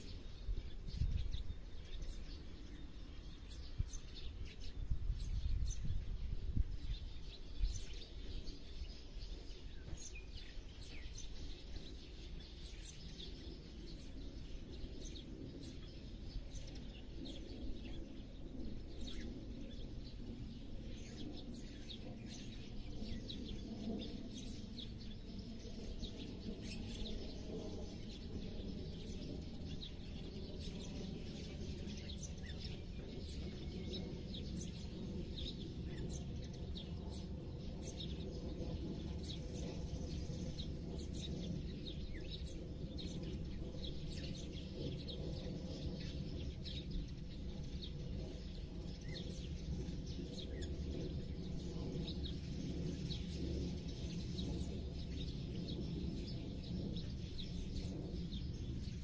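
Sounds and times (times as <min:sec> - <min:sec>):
low background rumble: 0:00.0 - 0:59.0
small birds chirping: 0:00.0 - 0:59.0.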